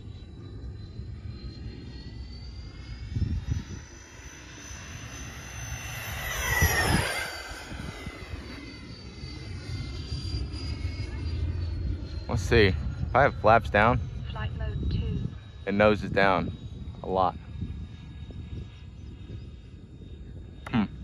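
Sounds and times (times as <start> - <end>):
model jet fans whining: 0.0 - 21.0.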